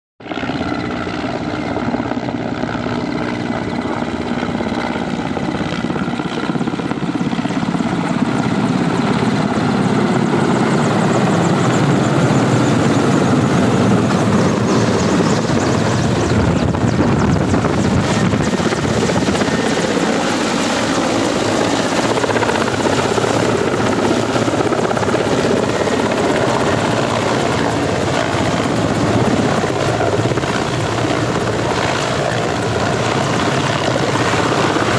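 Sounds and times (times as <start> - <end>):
helicopter rotor and engines: 0.2 - 34.9.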